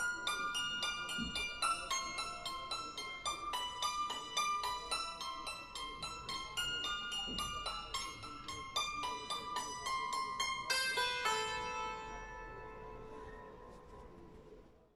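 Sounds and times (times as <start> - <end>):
santoor struck notes: 0.0 - 13.8.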